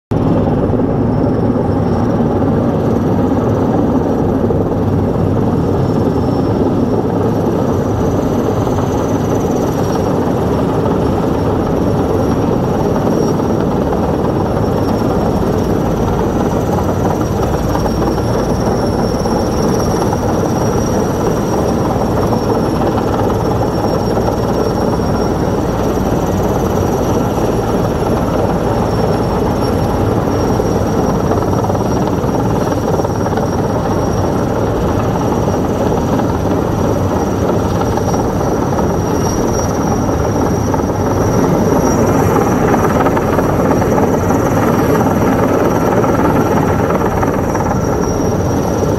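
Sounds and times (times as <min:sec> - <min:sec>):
helicopter rotor and turbine noise: 0:00.1 - 0:48.9
high turbine whine: 0:00.1 - 0:48.9.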